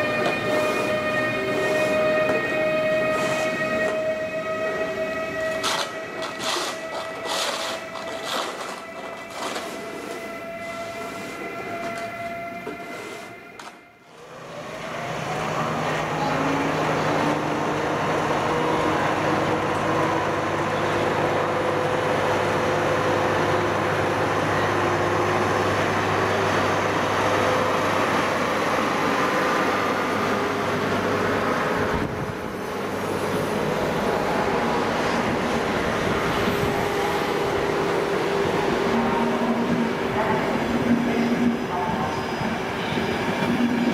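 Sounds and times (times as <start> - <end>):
electric locomotive whine: 0.0 - 43.9
electric train whine: 0.0 - 43.9.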